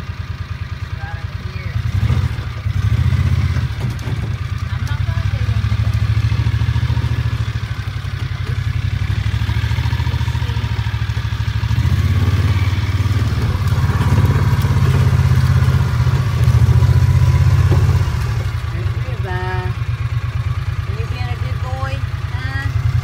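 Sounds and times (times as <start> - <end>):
utility vehicle engine droning: 0.0 - 23.0.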